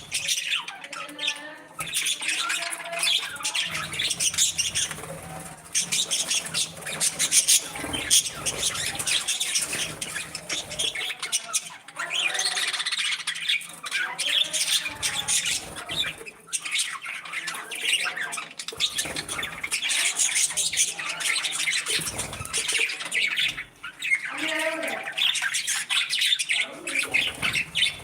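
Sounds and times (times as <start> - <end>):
budgies chirping and squawking: 0.0 - 28.0.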